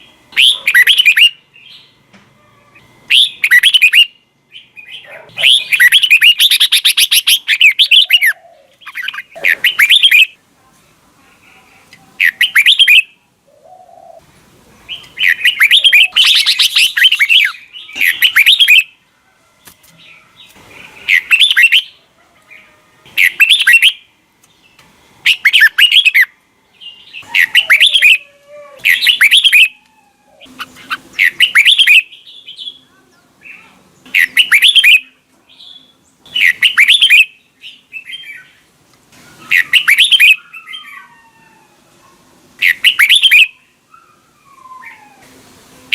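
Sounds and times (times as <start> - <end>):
bird singing warbled phrases: 0.0 - 2.0, 2.7 - 10.4, 11.4 - 14.2, 14.8 - 19.0, 20.0 - 38.7, 39.3 - 41.1, 42.6 - 45.2.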